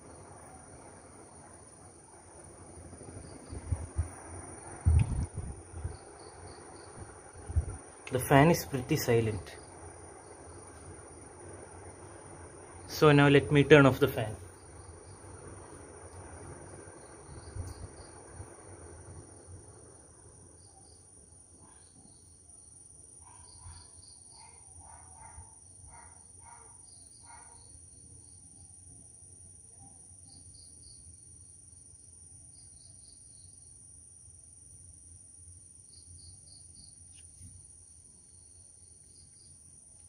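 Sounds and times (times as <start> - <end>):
crickets chirping: 0.0 - 40.0
faint low hum: 0.0 - 40.0.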